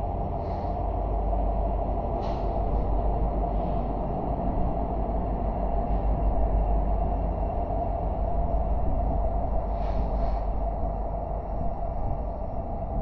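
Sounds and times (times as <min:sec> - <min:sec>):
locomotives passing rumble: 0:00.0 - 0:13.0.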